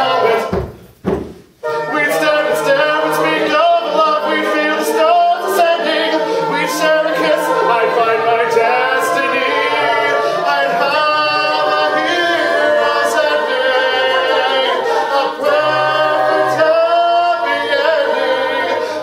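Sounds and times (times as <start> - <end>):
group singing backing harmonies: 0.0 - 0.9, 1.6 - 19.0
man singing lead: 1.9 - 18.2.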